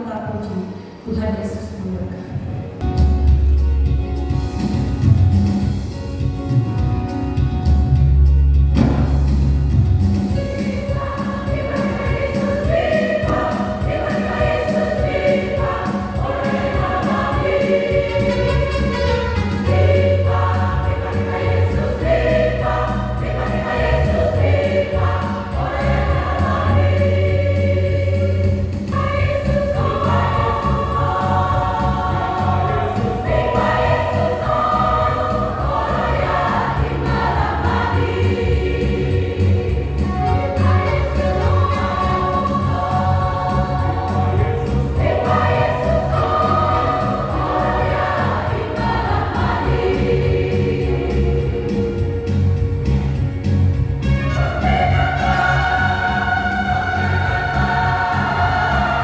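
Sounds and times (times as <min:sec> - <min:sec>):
choir singing gospel song: 0:08.7 - 0:59.0.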